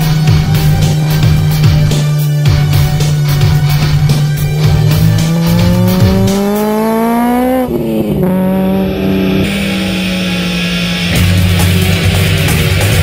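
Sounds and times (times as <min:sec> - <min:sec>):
rally car engine pulling hard: 0:00.0 - 0:13.0
rock music: 0:00.0 - 0:13.0.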